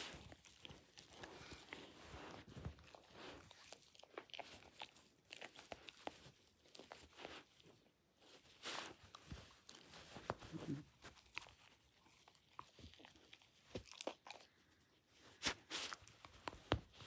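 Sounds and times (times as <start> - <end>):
dog chewing and tearing toy: 0.0 - 14.6.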